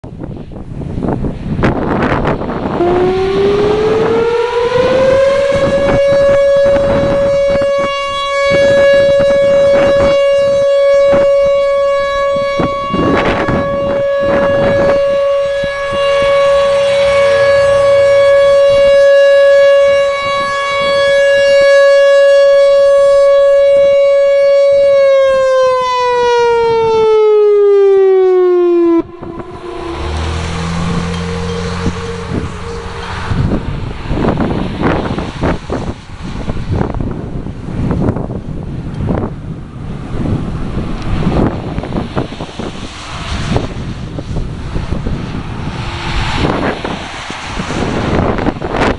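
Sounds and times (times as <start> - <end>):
wind buffeting microphone: 0.0 - 48.9
warning siren steady tone: 1.0 - 48.9.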